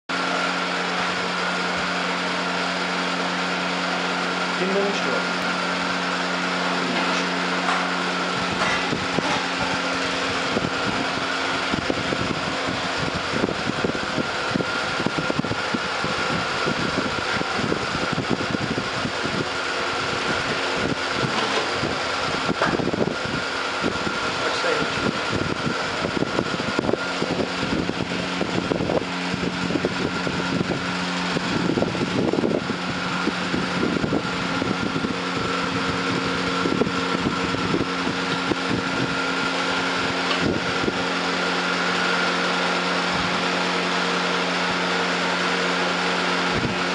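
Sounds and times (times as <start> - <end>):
machine hum: 0.1 - 46.9.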